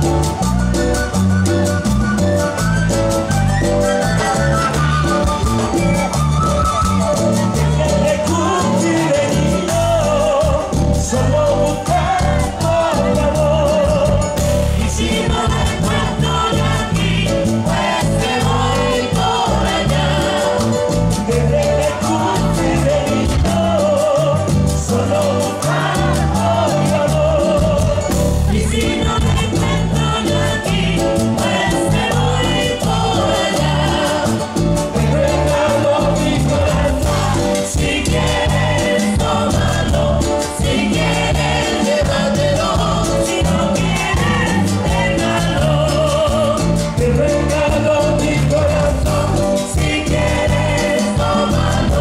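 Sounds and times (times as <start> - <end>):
latin dance band playing: 0.0 - 52.0
person singing: 7.2 - 52.0.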